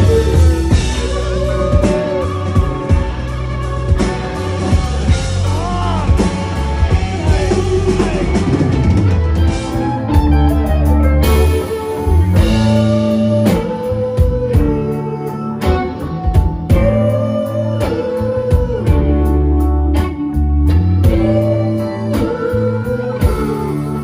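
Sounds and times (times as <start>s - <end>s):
electric guitar: 0.0s - 24.0s
rock band playing live: 0.0s - 24.0s.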